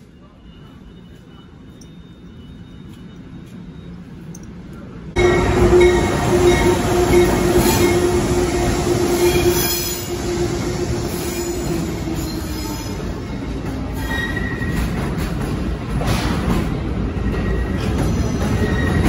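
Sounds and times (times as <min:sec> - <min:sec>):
distant train: 0:00.0 - 0:19.0
train wheels rumbling on rails: 0:00.6 - 0:19.0.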